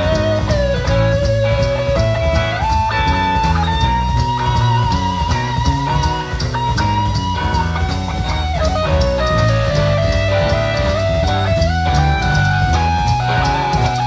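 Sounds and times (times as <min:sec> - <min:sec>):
drums and cymbals: 0:00.0 - 0:14.0
lead guitar line: 0:00.0 - 0:14.0
rock band playing: 0:00.0 - 0:14.0.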